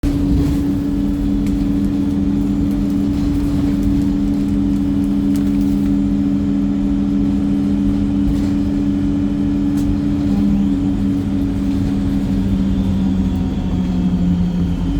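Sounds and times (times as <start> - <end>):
bus diesel engine running: 0.0 - 14.9.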